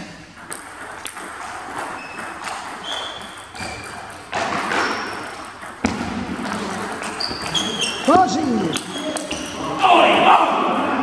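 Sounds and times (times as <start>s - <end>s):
table tennis balls clicking: 0.4s - 9.6s.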